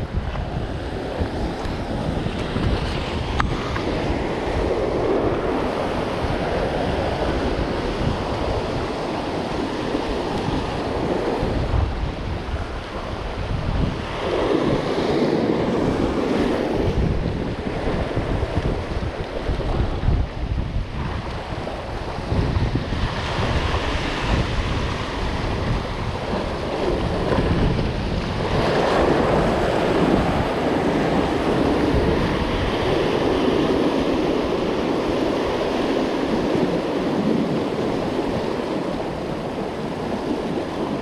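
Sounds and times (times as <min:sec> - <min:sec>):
surf breaking over rocks: 0:00.0 - 0:41.0
wind buffeting microphone: 0:00.0 - 0:41.0.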